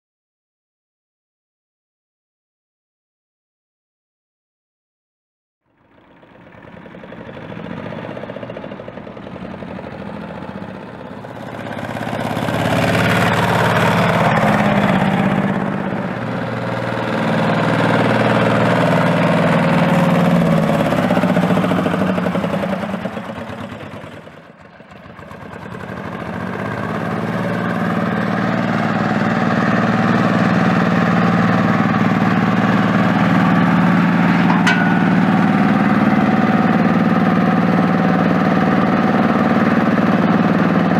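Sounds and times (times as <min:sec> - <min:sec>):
small tractor engine running: 0:05.6 - 0:40.9.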